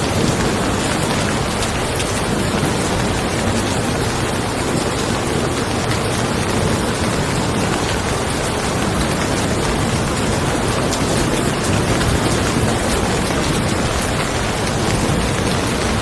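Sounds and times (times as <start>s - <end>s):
rain falling on a car: 0.0s - 16.0s.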